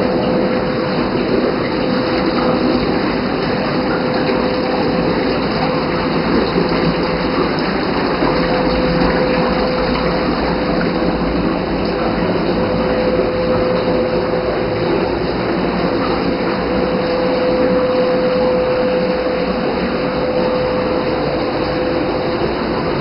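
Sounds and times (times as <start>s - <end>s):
motor hum: 0.0s - 23.0s
rush of pumped water and air: 0.0s - 23.0s.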